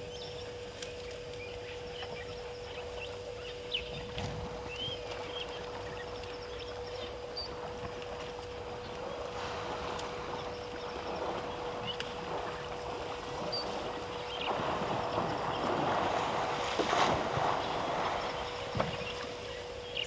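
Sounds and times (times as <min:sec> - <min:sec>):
steady low hum: 0:00.0 - 0:20.0
water sloshing and splashing: 0:02.8 - 0:19.9.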